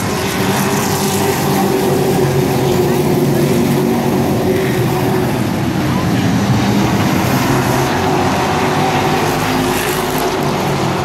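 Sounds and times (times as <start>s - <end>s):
racing truck engines droning: 0.0s - 11.0s.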